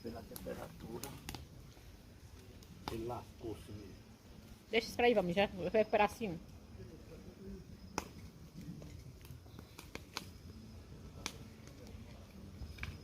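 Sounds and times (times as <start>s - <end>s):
bonfire crackling: 0.0s - 13.0s.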